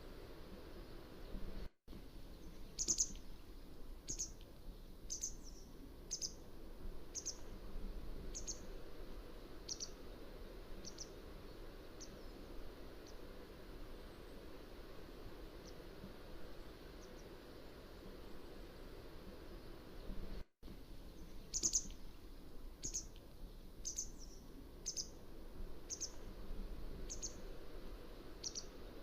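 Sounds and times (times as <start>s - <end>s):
low background hiss: 0.0s - 29.0s.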